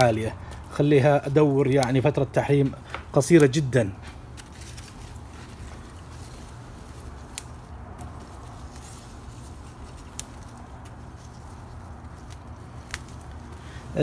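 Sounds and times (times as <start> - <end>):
rustling of plants: 0.0 - 14.0.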